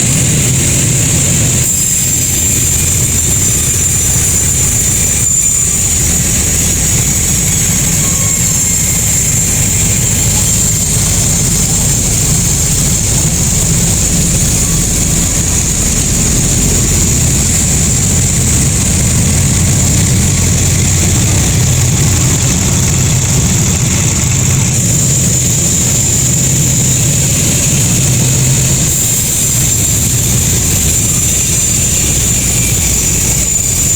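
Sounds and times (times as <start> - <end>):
high-pitched machine whine: 0.0 - 33.9
sawmill machinery low drone: 0.0 - 33.9.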